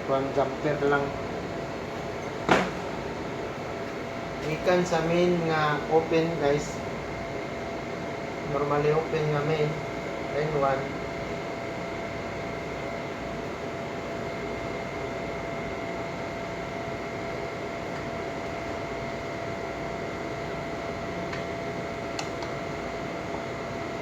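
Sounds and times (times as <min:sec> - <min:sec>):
background hum and hiss: 0:00.0 - 0:24.0.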